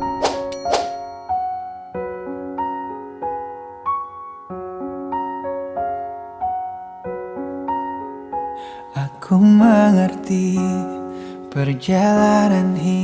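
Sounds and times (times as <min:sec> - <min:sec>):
gentle piano ballad: 0:00.0 - 0:13.0.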